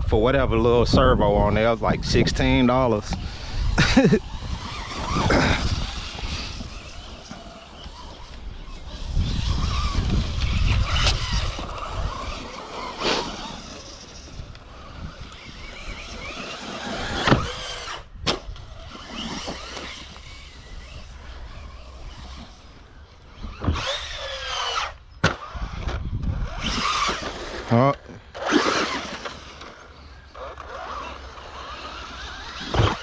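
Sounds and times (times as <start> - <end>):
toy truck electric motor whining: 1.6 - 33.0.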